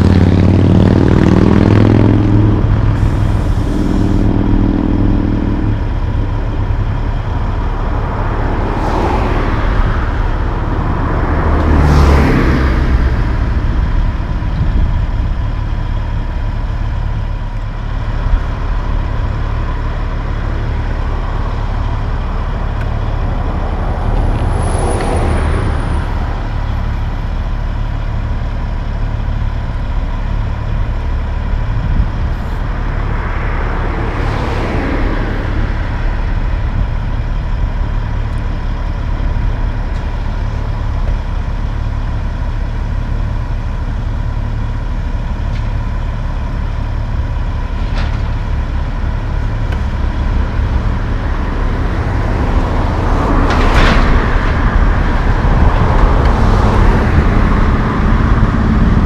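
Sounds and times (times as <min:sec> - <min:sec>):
passing traffic: 0:00.0 - 0:59.0
diesel truck engine idling: 0:02.0 - 0:11.6, 0:12.2 - 0:34.0, 0:35.0 - 0:53.5.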